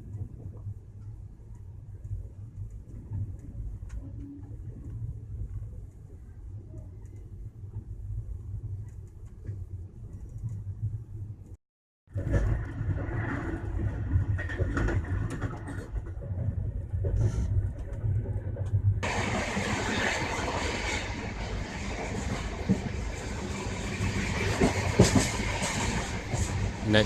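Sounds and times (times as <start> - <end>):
train rumble and hum: 0.0 - 27.0.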